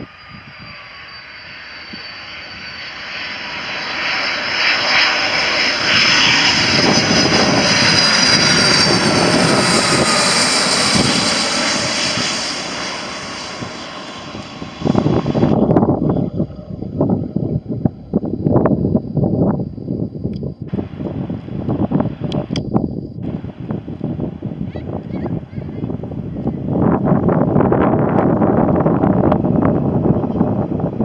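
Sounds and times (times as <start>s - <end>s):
jet engines passing: 0.0s - 18.9s, 20.6s - 31.0s
high engine whine: 0.0s - 31.0s.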